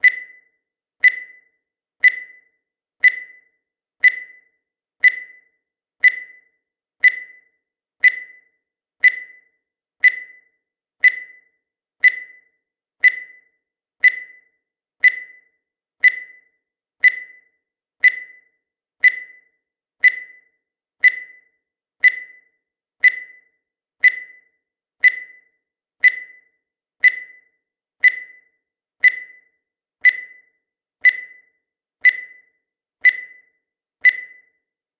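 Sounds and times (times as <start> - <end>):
short high-pitched timer beeps: 0.0 - 34.7.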